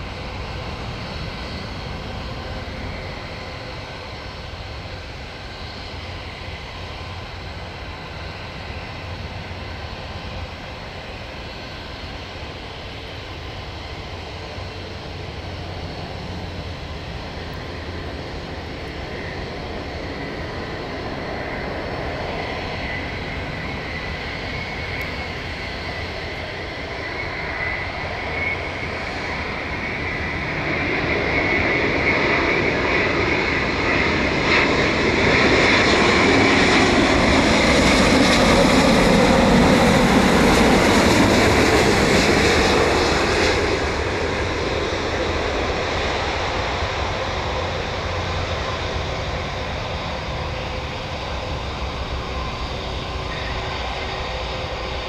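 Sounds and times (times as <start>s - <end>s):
jet engines high fan whine: 0.0s - 55.0s.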